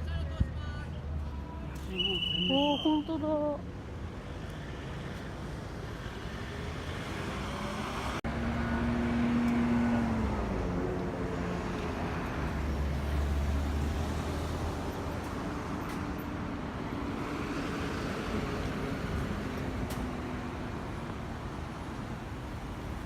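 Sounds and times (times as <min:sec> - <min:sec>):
vehicle engine hum: 0:00.0 - 0:23.0
motor vehicles passing: 0:00.2 - 0:23.0.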